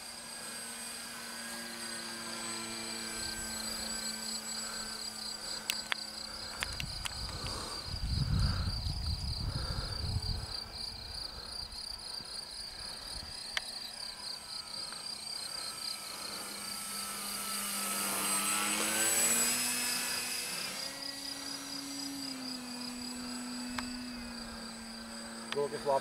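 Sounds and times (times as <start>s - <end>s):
model plane motor and propeller: 0.0s - 26.0s
crickets chirping: 0.1s - 26.0s.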